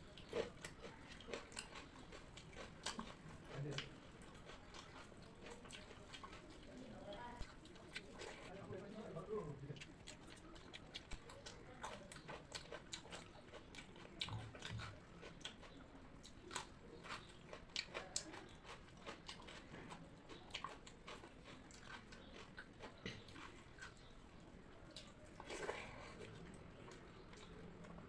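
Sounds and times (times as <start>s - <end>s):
person chewing crunchy food: 0.0s - 8.5s, 9.8s - 28.0s.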